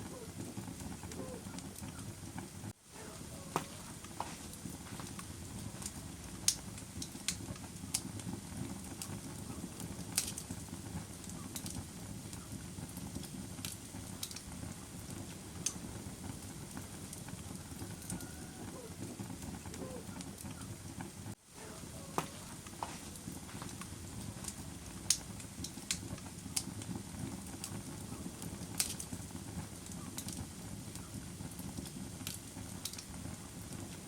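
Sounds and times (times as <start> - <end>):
flames rushing: 0.0 - 34.0
wood crackling and popping: 0.0 - 34.0.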